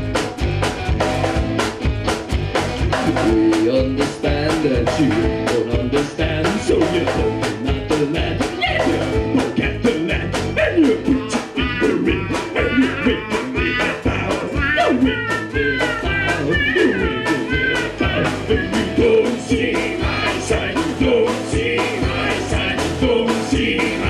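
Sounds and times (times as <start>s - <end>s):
acoustic guitars strumming: 0.0s - 24.0s
person singing: 3.0s - 24.0s.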